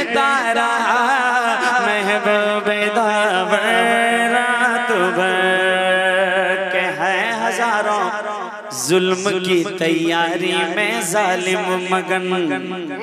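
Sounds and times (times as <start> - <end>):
man singing melismatic line: 0.0 - 13.0.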